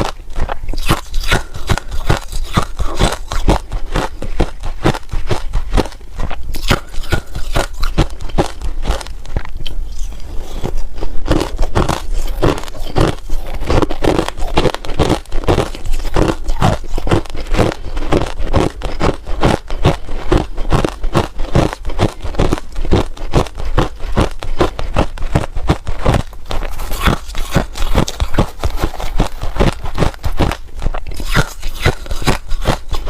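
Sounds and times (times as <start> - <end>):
person crunching ice: 0.0 - 33.0.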